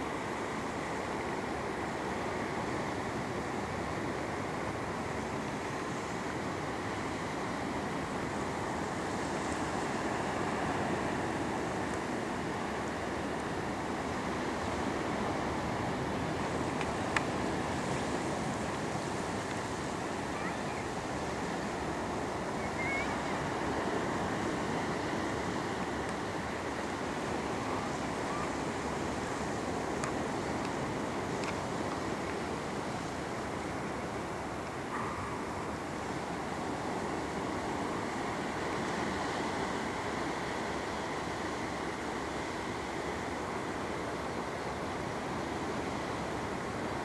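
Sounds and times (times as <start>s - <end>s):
small waves on sandy beach: 0.0s - 47.0s.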